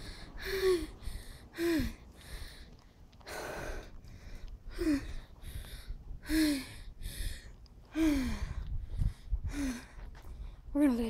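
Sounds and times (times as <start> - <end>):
boy gasping: 0.0 - 2.7, 3.3 - 10.1.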